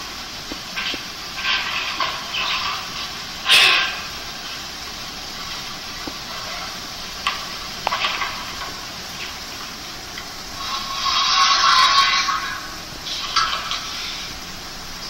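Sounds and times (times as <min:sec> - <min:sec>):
hiss from laptop speakers: 0:00.0 - 0:15.0.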